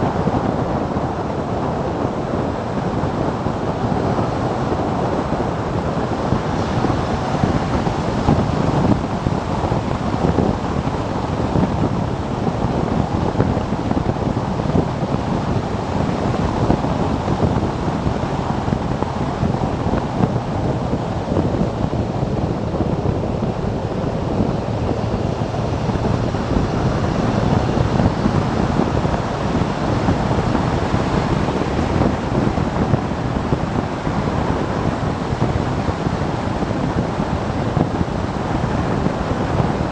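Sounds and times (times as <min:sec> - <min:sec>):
wind buffeting microphone: 0:00.0 - 0:39.9
motorcycle running: 0:01.7 - 0:39.8.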